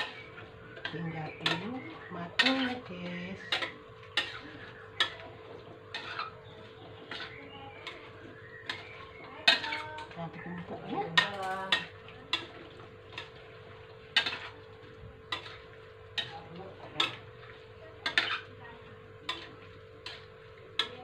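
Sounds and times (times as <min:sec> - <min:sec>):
metal spatula scraping a wok: 0:00.0 - 0:14.6, 0:15.3 - 0:18.6, 0:19.2 - 0:21.0.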